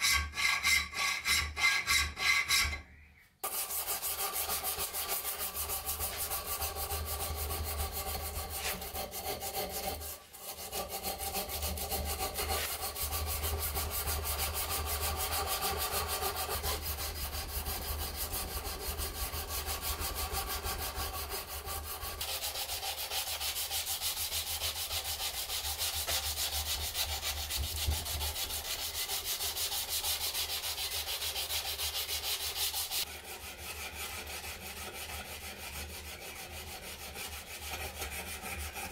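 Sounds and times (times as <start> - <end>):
file rasping on steel blade: 0.0 - 2.8, 3.4 - 38.9.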